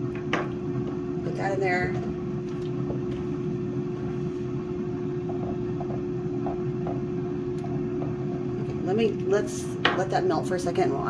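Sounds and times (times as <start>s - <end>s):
kitchen appliance fan humming: 0.0s - 11.0s.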